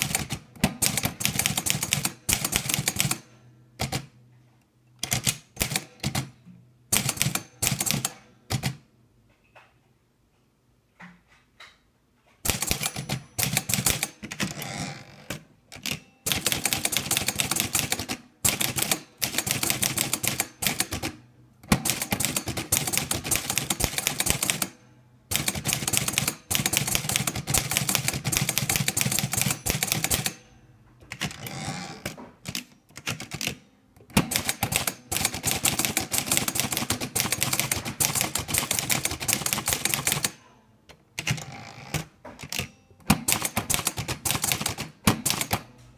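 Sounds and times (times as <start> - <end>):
manual typewriter key strikes: 0.0 - 4.1, 5.0 - 8.8, 12.4 - 14.7, 15.3 - 40.5, 41.2 - 45.9.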